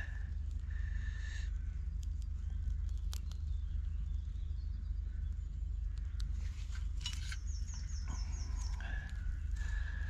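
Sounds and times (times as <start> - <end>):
faint birdsong: 0.0 - 10.0
fire crackling: 0.0 - 10.0
steady low rumble: 0.0 - 10.0.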